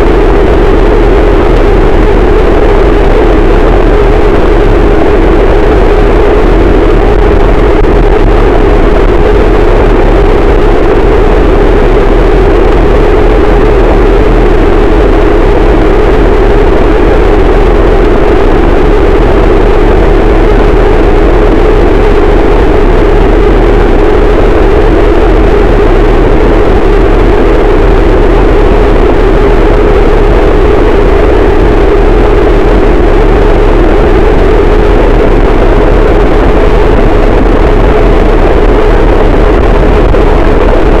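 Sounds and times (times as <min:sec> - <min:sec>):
heavily distorted static noise: 0:00.0 - 0:41.0.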